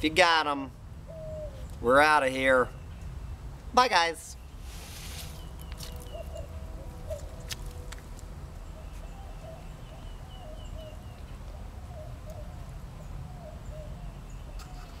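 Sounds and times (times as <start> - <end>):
bird calling: 1.1 - 3.0, 4.3 - 15.0.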